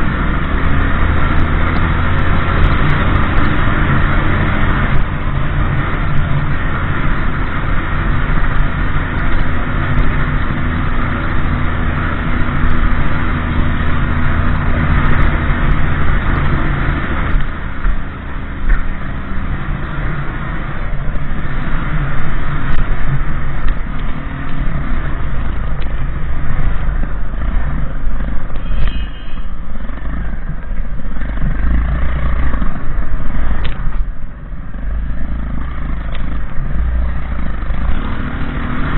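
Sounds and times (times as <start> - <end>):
wind rumble on microphone: 0.0 - 38.9.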